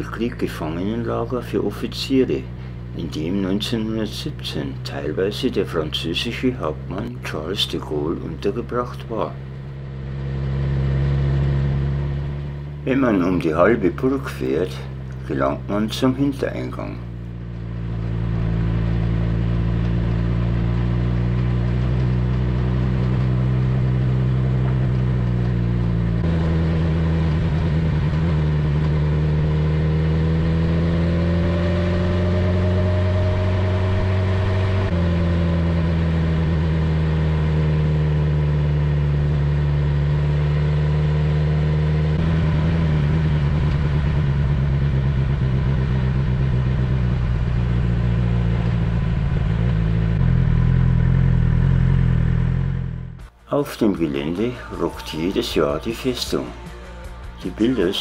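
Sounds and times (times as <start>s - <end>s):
motorcycle engine running: 8.0s - 53.4s, 56.3s - 58.0s.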